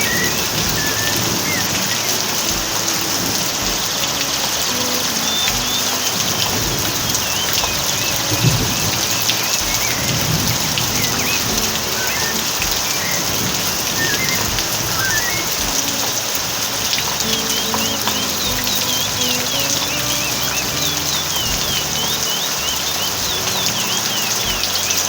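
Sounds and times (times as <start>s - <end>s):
rain falling: 0.0s - 25.0s
small birds chirping: 0.0s - 25.0s.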